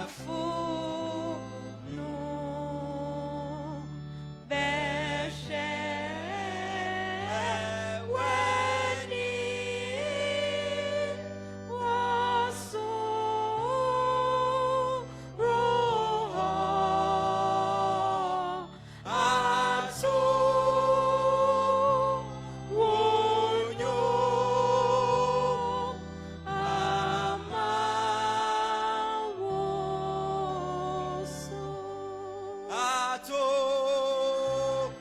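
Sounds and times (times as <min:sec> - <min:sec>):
hymn sung in long notes: 0:00.0 - 0:35.0
low sustained accompaniment chords: 0:00.0 - 0:35.0.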